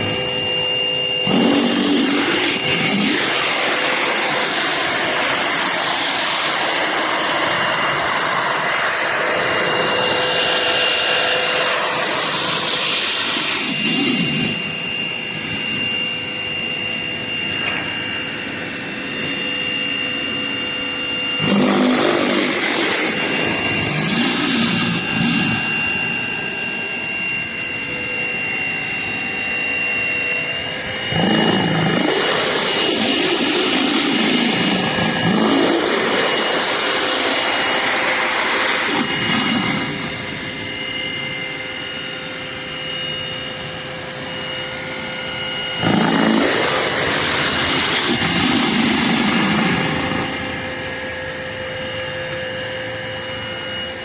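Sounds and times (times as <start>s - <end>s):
whining pump and motor: 0.0s - 54.0s.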